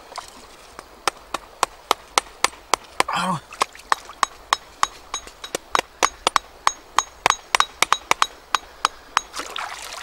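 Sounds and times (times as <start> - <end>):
blade chopping on wood: 0.8 - 9.3.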